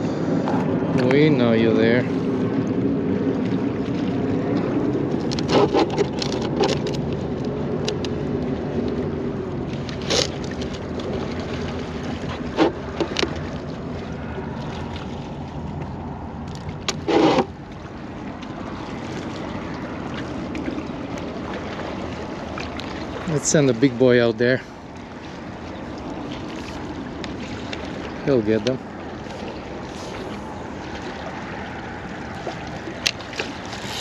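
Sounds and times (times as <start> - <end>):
wind and water noise: 0.0 - 34.0.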